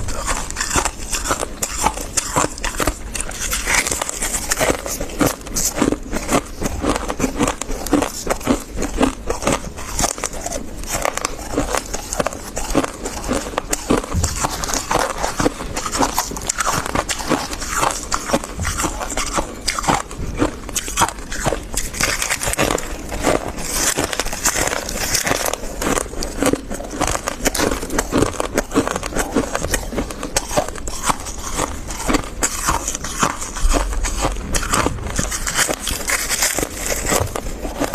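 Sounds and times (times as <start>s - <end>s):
frost being chewed crunching: 0.0s - 37.9s.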